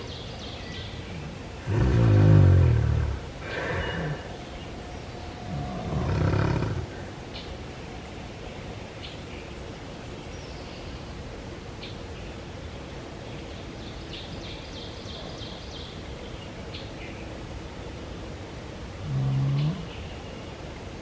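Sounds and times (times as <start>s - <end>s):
night noise: 0.0s - 21.0s.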